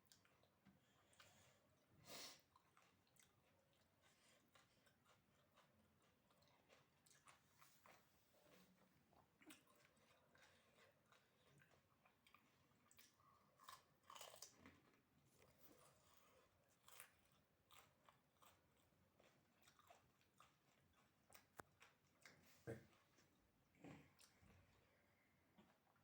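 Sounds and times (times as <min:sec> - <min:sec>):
crunching and chewing crisp shells: 0:00.0 - 0:23.5.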